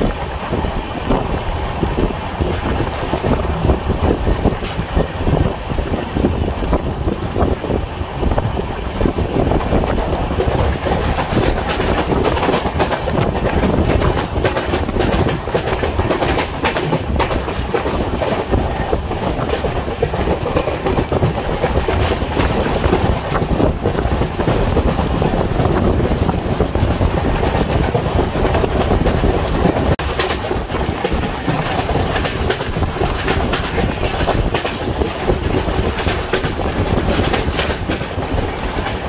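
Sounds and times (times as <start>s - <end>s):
train rumble: 0.0s - 39.0s
wheels clattering over rails: 0.0s - 39.0s.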